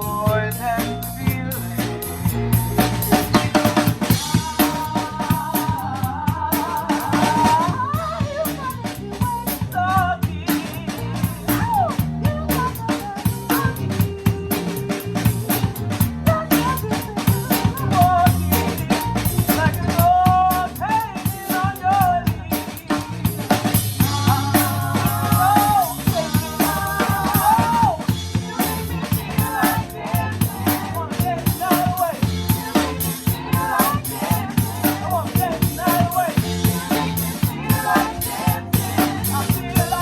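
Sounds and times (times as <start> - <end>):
drum kit beat: 0.0 - 40.0
live pop-rock band playing: 0.0 - 40.0.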